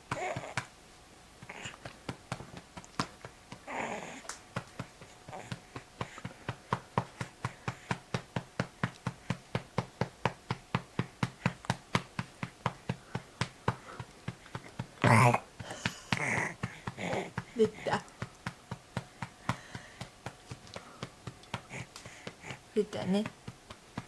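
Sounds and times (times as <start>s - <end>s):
hand patting baby's back: 0.0s - 0.7s, 4.4s - 24.0s.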